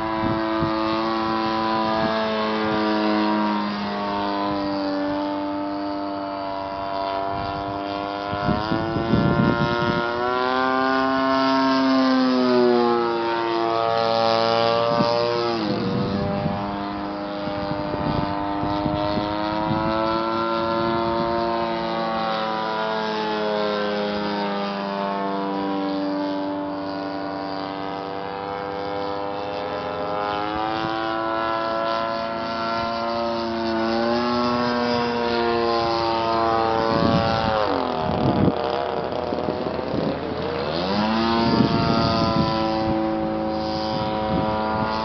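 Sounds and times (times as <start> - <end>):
model plane engine and propeller: 0.0 - 45.0.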